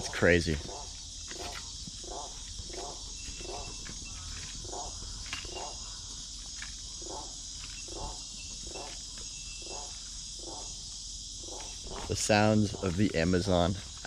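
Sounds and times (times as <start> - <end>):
low pulsing animal call: 0.0 - 13.8
high-pitched insect drone: 0.0 - 14.0.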